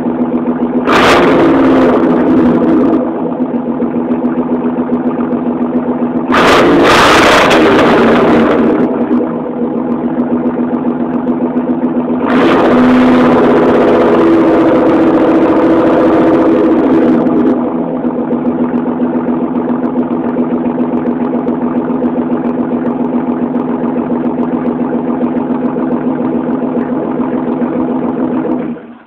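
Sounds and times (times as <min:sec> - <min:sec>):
car engine running without muffler: 0:00.0 - 0:29.0.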